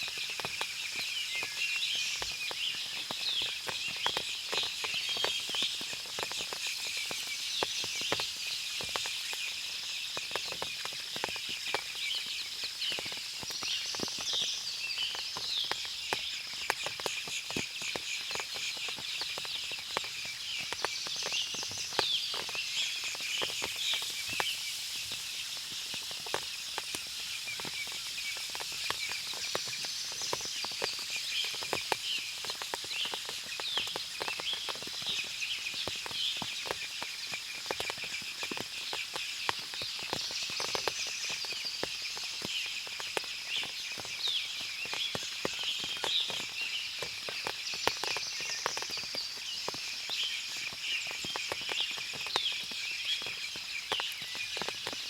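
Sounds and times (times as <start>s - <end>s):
birds chirping: 0.0s - 55.0s
water dripping from leaves: 0.0s - 55.0s.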